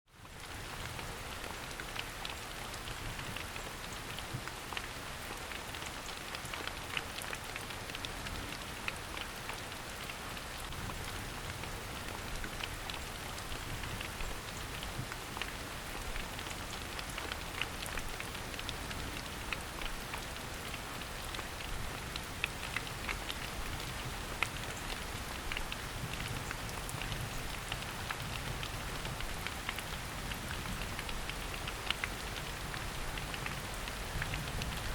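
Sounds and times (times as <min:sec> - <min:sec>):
raindrops ticking: 0:00.2 - 0:34.9.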